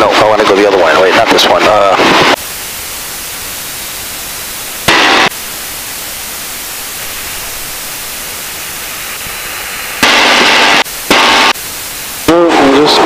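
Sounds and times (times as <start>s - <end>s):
intercom static hiss: 0.0s - 13.0s
loud noise bursts: 0.0s - 13.0s.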